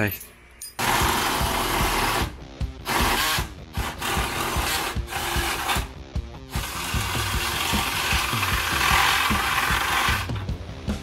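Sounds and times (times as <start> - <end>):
cordless drill into sheet metal: 0.8 - 5.9, 6.5 - 10.4.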